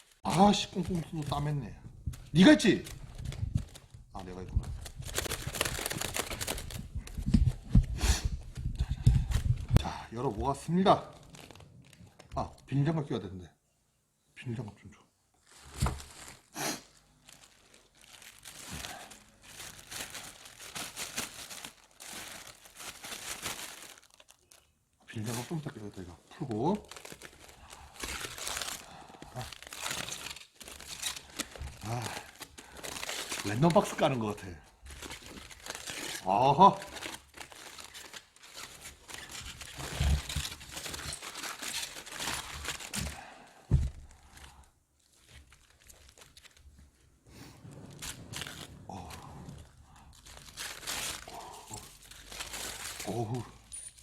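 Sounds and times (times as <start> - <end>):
wrapping crinkling and tearing: 0.0 - 12.9, 15.4 - 54.0.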